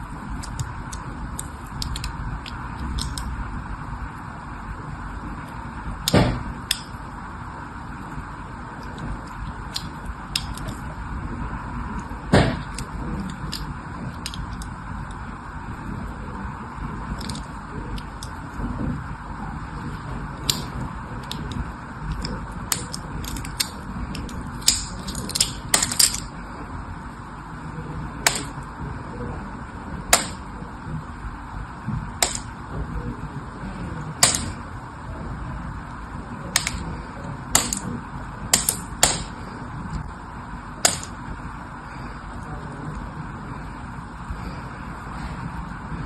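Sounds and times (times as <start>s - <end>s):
steady background hiss: 0.0s - 46.0s.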